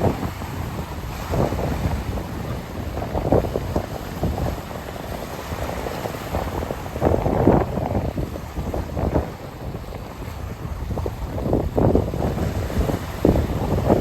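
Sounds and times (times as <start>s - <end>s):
waves lapping and splashing: 0.0s - 14.0s
wind rumbling on microphone: 0.0s - 14.0s.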